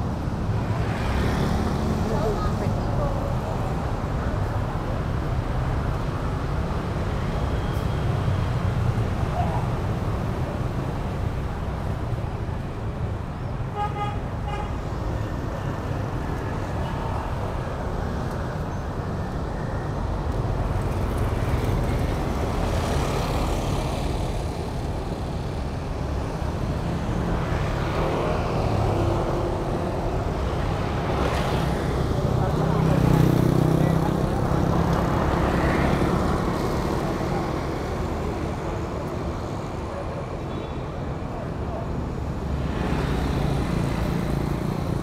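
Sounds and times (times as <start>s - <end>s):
street traffic rumble: 0.0s - 45.0s.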